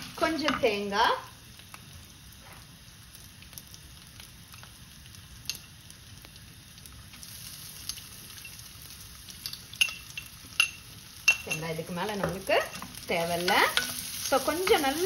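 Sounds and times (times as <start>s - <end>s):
spices sizzling in oil: 0.0s - 15.0s.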